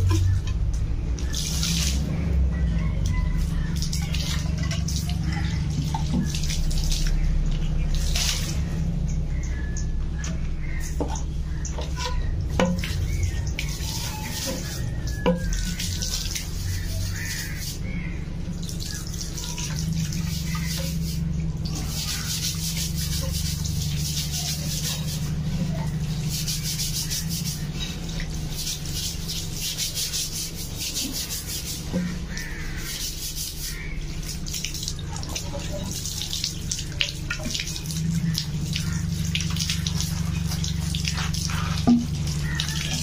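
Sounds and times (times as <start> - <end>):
water running and splashing: 0.0 - 43.0
bamboo scrubbed by hand: 1.2 - 9.1, 10.6 - 43.0.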